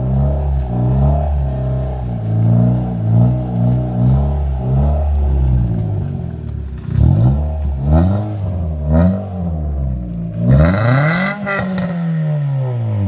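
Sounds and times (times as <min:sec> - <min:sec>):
car engine revving: 0:00.0 - 0:13.0
sharp exhaust cracks: 0:00.0 - 0:13.0.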